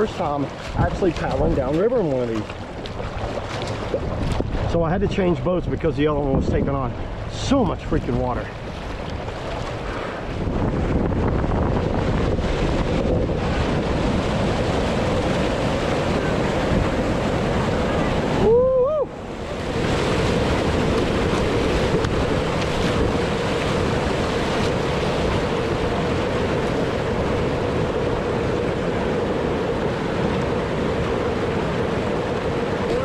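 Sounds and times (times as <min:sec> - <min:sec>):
whitewater rapids rushing: 0:00.0 - 0:10.5, 0:12.8 - 0:33.0
wind buffeting microphone: 0:00.0 - 0:33.0.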